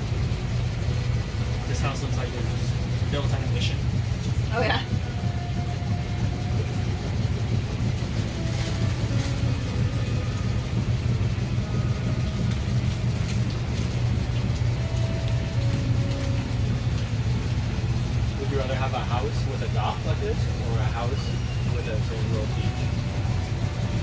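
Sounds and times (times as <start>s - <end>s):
constant rushing noise: 0.0s - 24.0s
low engine drone: 0.0s - 24.0s.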